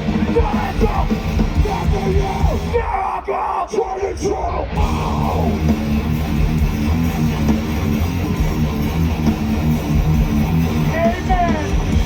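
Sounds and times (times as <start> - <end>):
punk band electric guitar and bass: 0.0 - 12.0.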